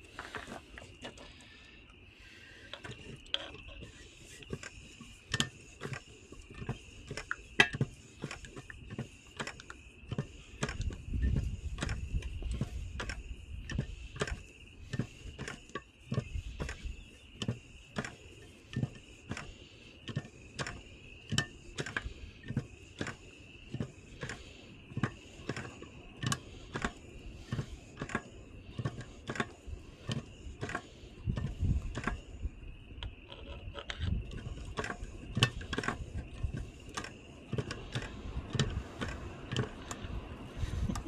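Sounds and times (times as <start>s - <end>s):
hand oil pump clacking: 0.0s - 1.4s, 2.6s - 32.4s, 33.0s - 41.0s.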